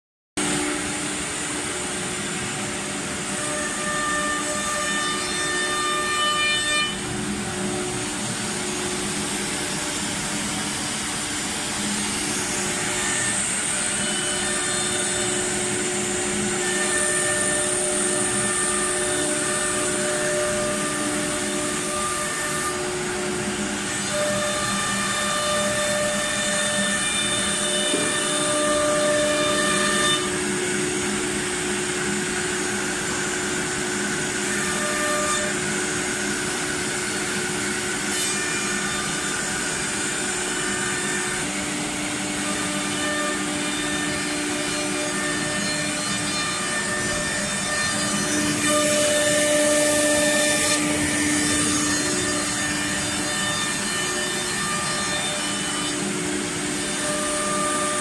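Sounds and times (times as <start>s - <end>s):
router spindles whining: 6.8s - 58.0s.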